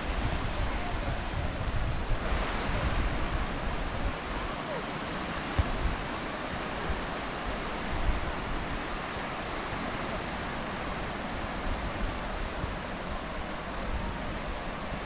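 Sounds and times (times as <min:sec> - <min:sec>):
surf washing on sandy beach: 0:00.0 - 0:15.0
wind on microphone: 0:00.0 - 0:15.0.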